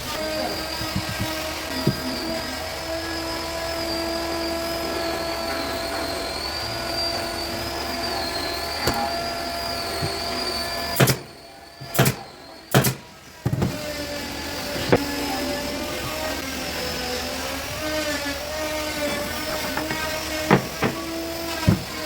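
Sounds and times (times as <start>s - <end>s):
power tool whining: 0.0s - 22.0s.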